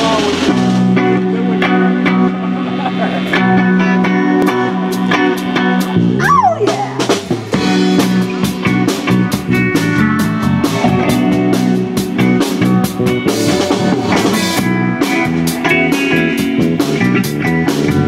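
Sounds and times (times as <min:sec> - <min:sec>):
drum kit beat: 0:00.0 - 0:18.0
electric bass: 0:00.0 - 0:18.0
electric guitars: 0:00.0 - 0:18.0.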